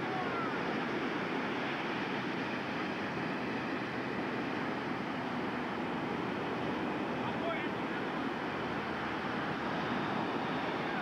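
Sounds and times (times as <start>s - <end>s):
ocean surf on a beach: 0.0s - 11.0s.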